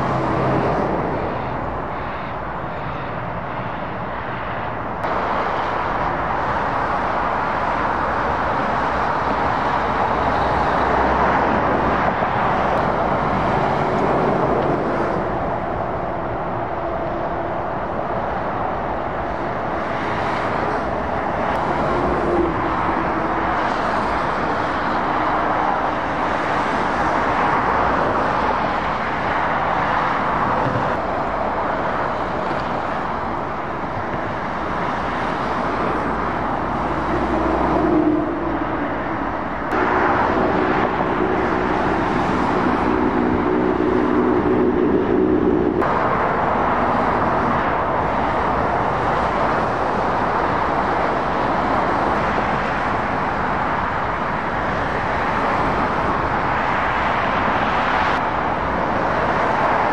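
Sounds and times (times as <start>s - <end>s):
lorry engine drone: 0.0s - 56.6s
traffic tyre and engine noise: 0.0s - 59.9s.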